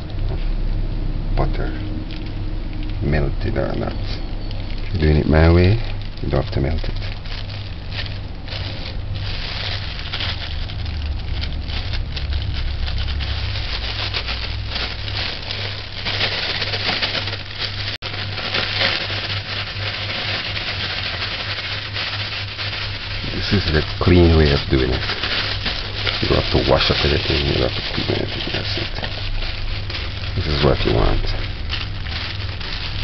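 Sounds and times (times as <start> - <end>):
steady low hum: 0.0 - 33.0
plastic bag crinkling: 2.0 - 33.0.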